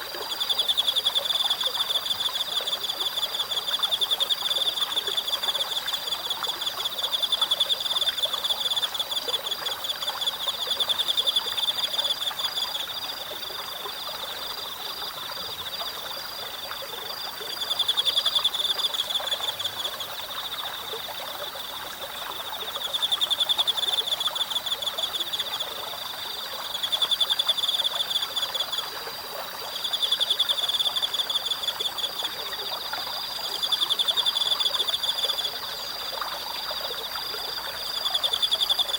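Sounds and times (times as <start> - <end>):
forest stream murmuring: 0.0 - 38.9.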